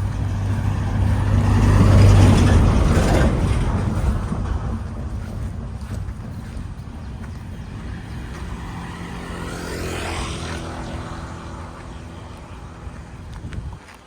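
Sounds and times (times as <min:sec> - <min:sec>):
vehicle engine running: 0:00.0 - 0:14.0
vehicle passing by: 0:00.0 - 0:14.0.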